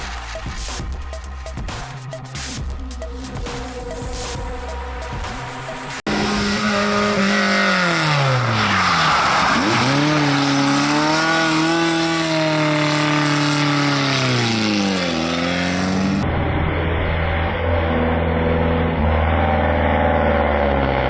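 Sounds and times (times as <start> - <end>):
steady engine drone: 0.0 - 8.4, 10.9 - 21.0
rally car engine revving: 0.0 - 21.0.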